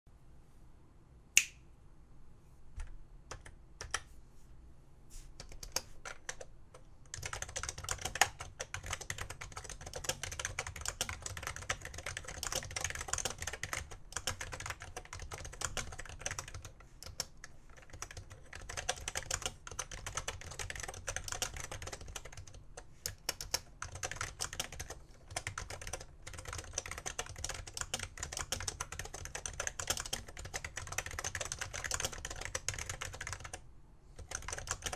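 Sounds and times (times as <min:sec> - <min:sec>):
keyboard typing: 0:02.8 - 0:04.1, 0:05.4 - 0:33.6, 0:34.2 - 0:34.9.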